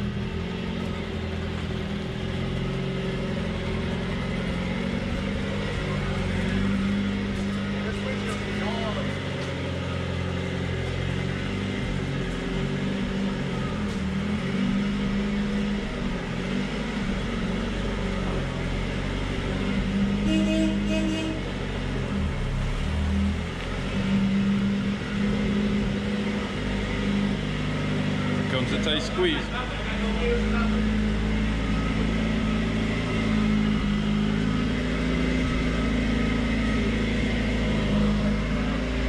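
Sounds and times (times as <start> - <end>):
truck engine running at low revs: 0.0 - 39.0.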